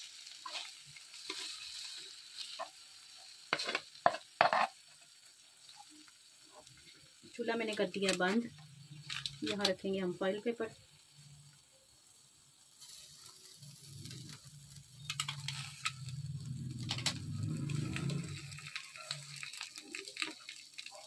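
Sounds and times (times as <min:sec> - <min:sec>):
light sizzling from a pan: 0:00.0 - 0:21.0.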